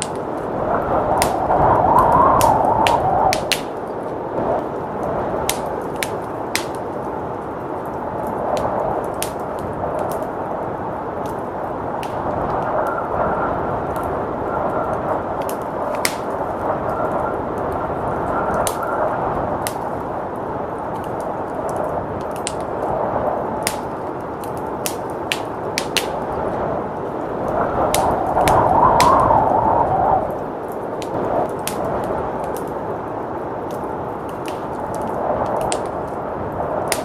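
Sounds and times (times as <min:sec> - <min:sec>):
howling blizzard wind: 0:00.0 - 0:37.0
wood fire crackling and popping: 0:00.0 - 0:37.0.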